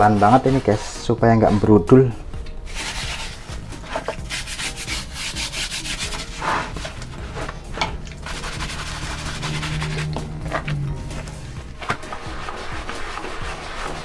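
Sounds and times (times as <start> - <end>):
brush scrubbing wet carpet: 0.0 - 2.1, 2.7 - 14.0.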